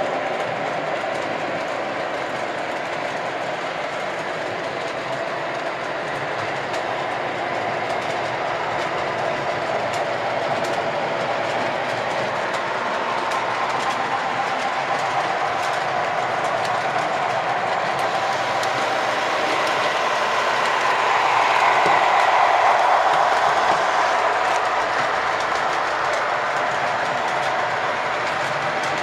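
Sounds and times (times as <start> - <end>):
model train rolling rumble: 0.1 - 29.0.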